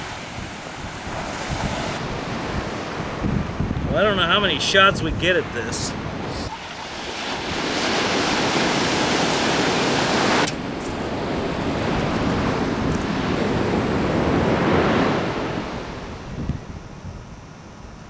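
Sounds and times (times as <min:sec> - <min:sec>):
ocean surf: 0:00.0 - 0:16.4
wind on microphone: 0:00.0 - 0:18.0.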